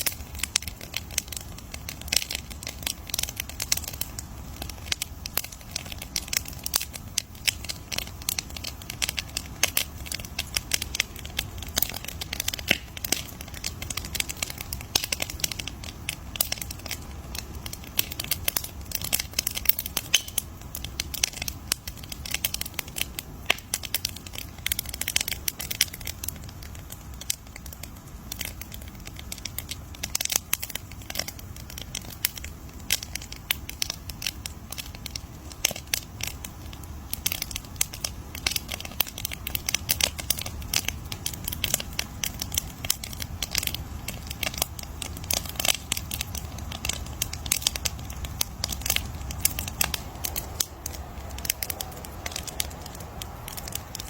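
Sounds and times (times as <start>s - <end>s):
campfire crackling: 0.0s - 54.0s
low rumble of burning: 0.0s - 54.0s.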